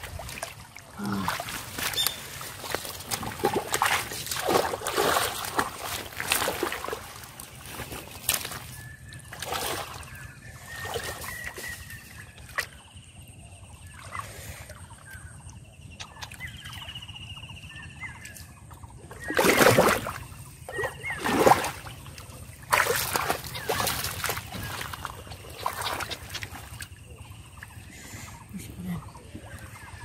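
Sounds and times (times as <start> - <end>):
splashing in muddy water: 0.0 - 16.9, 19.0 - 30.0.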